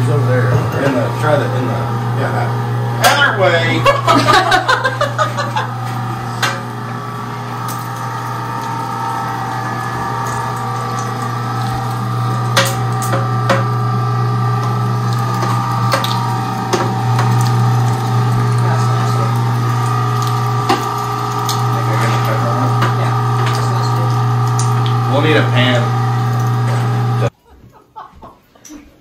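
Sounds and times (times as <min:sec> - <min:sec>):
meat grinder motor hum: 0:00.0 - 0:27.3.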